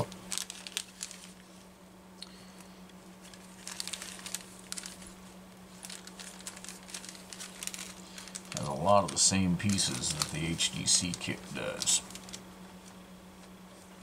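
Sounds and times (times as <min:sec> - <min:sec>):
plastic bag crinkling: 0:00.0 - 0:01.6, 0:02.5 - 0:13.0
steady low hum: 0:00.0 - 0:14.0.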